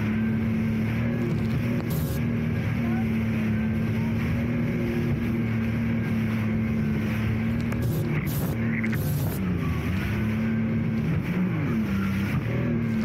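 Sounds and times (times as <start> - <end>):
jet ski engine running: 0.0 - 13.0
wind and water rush: 0.0 - 13.0.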